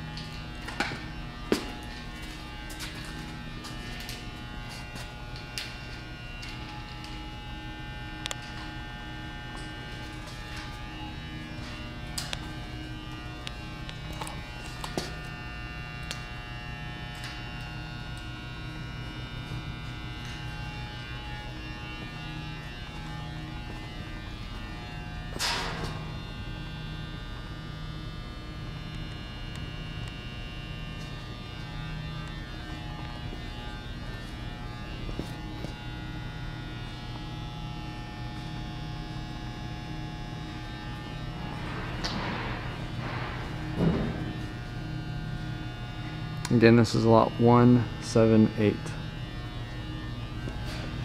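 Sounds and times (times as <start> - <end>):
electrical buzzing hum: 0.0 - 51.0.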